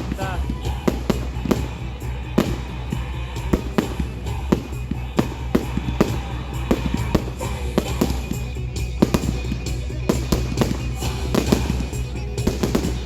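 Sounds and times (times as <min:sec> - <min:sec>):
firework bangs and cracks: 0:00.0 - 0:13.0
music playing: 0:00.0 - 0:13.0.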